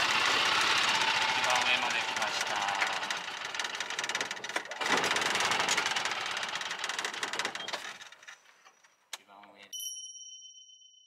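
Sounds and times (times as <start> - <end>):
small engine rattling: 0.0 - 9.0.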